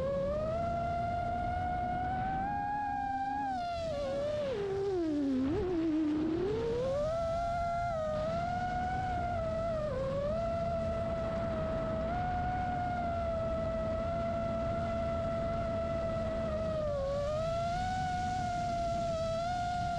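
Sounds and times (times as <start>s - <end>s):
low rumble of wind: 0.0s - 19.9s.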